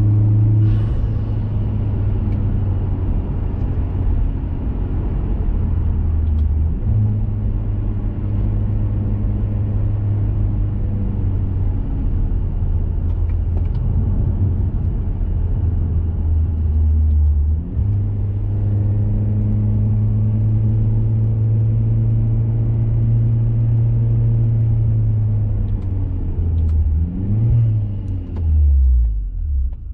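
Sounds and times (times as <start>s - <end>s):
car exhaust droning inside car: 0.0s - 29.9s.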